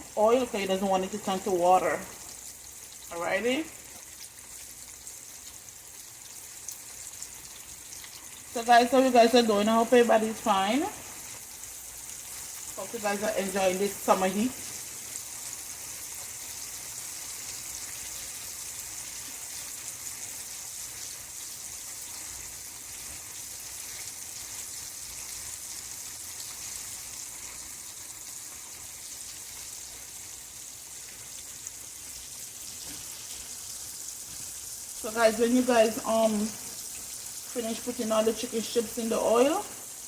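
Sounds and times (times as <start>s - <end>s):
food sizzling in hot oil: 0.0s - 40.0s.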